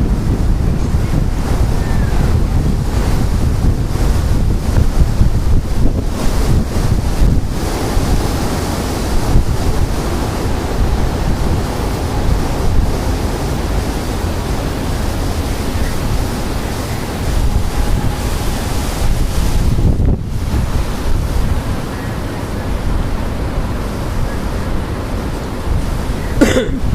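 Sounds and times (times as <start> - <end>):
storm wind buffeting microphone: 0.0 - 26.9.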